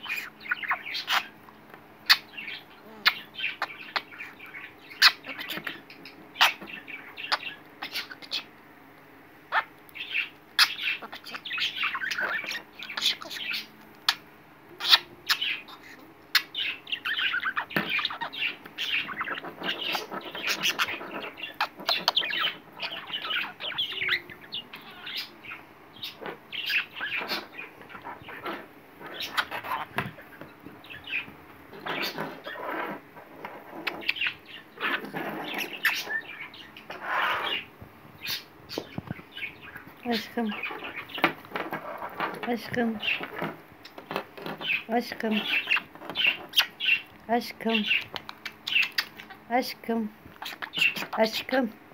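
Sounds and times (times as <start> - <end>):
budgerigar chattering: 0.0 - 1.4, 2.0 - 8.5, 9.5 - 14.2, 14.8 - 33.0, 33.8 - 42.3, 43.0 - 47.1, 47.7 - 49.5, 50.4 - 51.5.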